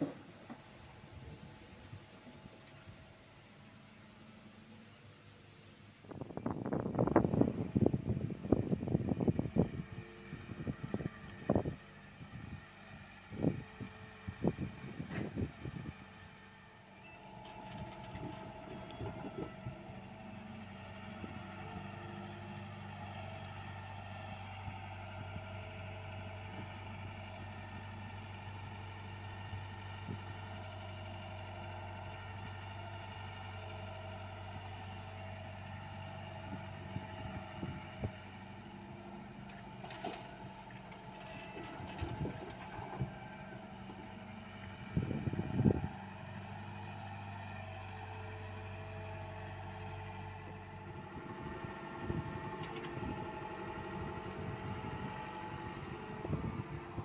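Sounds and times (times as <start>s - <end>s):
excavator diesel engine running: 0.0s - 5.2s, 5.8s - 57.0s.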